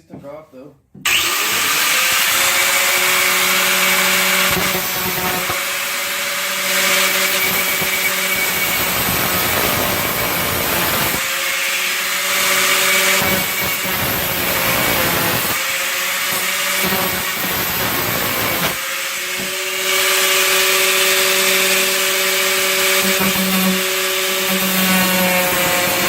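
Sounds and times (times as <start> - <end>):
power tool grinding sheet metal: 1.1 - 26.0.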